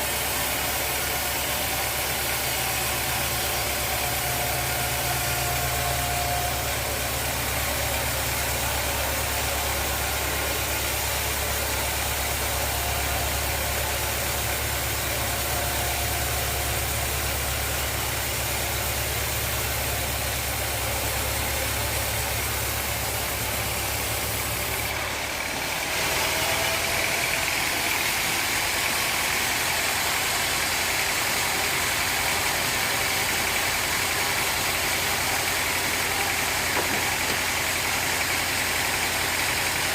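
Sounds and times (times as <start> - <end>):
higher machine running sound: 0.0 - 39.9
sawmill machinery hum: 0.0 - 39.9.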